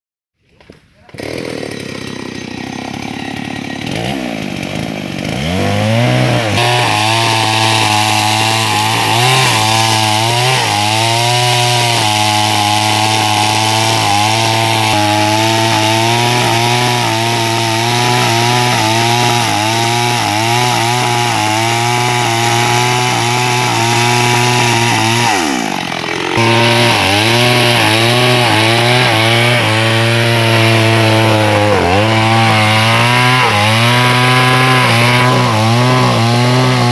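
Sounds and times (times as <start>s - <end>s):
chainsaw cutting into tree trunk: 0.4s - 36.9s.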